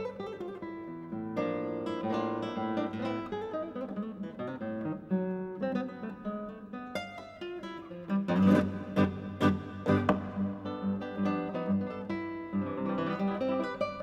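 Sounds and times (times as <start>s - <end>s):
classical guitar playing: 0.0s - 14.0s.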